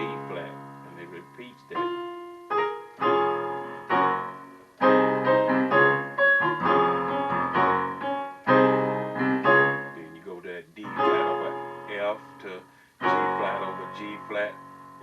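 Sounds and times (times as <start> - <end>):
piano chords ringing: 0.0 - 15.0.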